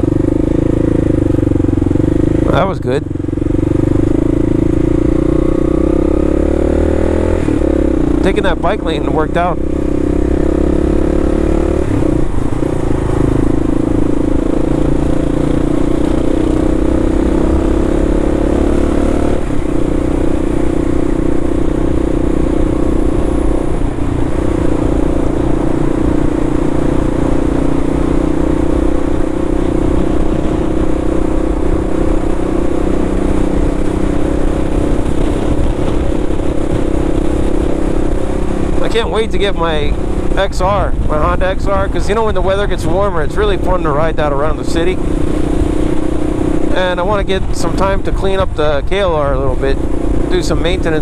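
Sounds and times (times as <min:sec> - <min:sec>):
motorcycle engine droning: 0:00.0 - 0:51.0
road and wind noise: 0:00.0 - 0:51.0.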